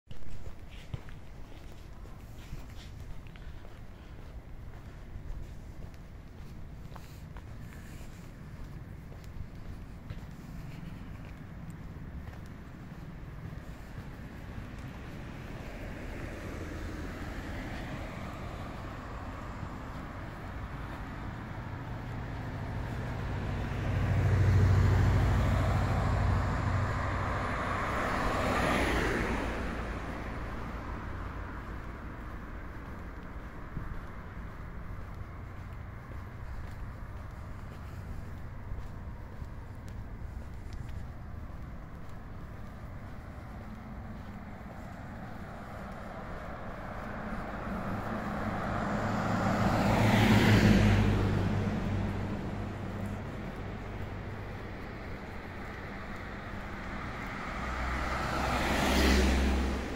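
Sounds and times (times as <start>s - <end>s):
car tyre noise passing: 0.1s - 59.9s
engine rumble: 0.1s - 59.9s.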